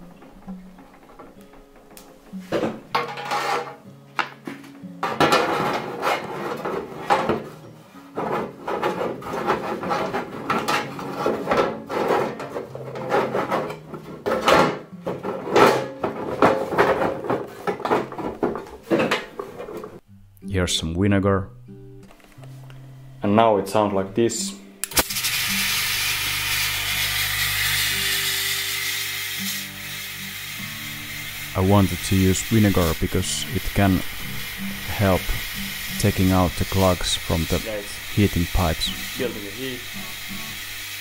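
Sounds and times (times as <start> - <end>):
background music: 0.0 - 41.0.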